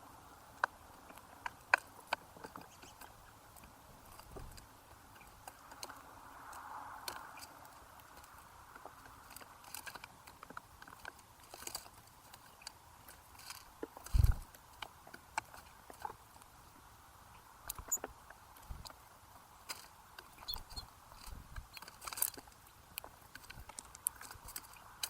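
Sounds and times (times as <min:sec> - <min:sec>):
birds pecking seed on feeder: 0:00.0 - 0:25.0.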